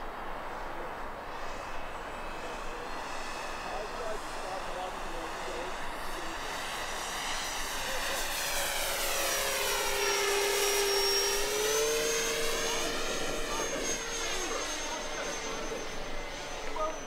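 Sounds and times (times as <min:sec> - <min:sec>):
model plane motor whining: 0:01.3 - 0:17.0.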